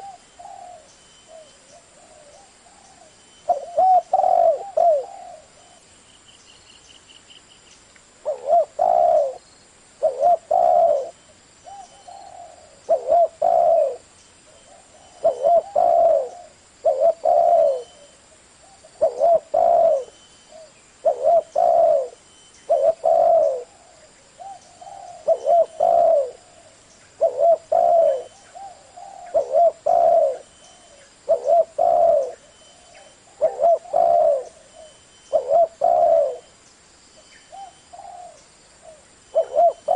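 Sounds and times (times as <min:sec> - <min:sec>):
dove cooing: 0:00.0 - 0:05.9, 0:08.2 - 0:09.4, 0:10.0 - 0:36.5, 0:37.5 - 0:39.9.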